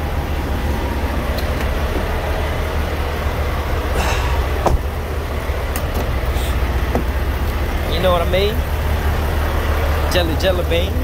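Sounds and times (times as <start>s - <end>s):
diesel truck engines idling: 0.0s - 11.0s.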